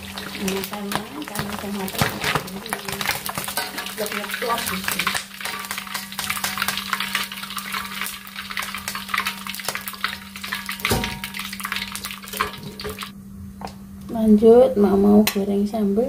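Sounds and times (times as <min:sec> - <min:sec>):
oil sizzling and crackling in a wok: 0:00.0 - 0:13.2
steady low hum: 0:00.0 - 0:16.0.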